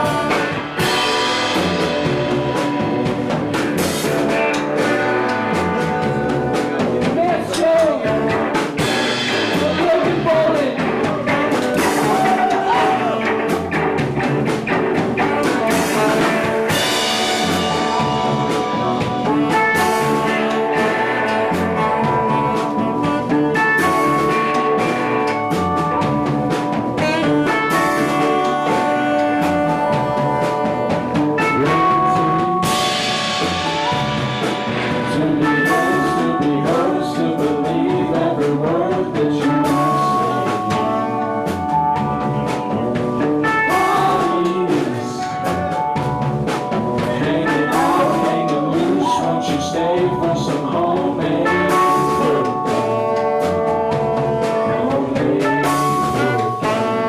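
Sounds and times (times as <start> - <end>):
person singing: 0.0 - 3.0, 3.8 - 13.8, 15.1 - 26.0, 26.6 - 46.0, 46.7 - 57.0
drum kit and cymbals: 0.0 - 57.0.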